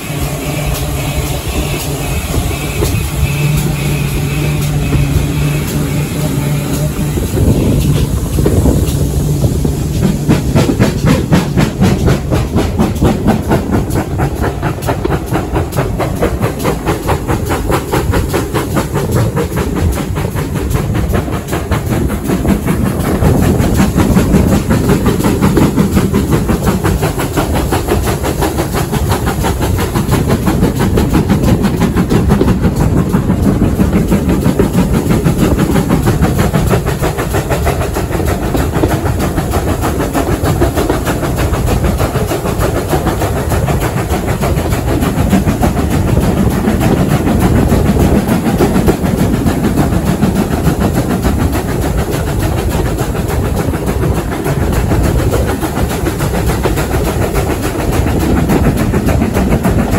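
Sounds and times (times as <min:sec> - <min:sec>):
train rumble and rhythmic clatter: 0:00.0 - 0:59.9.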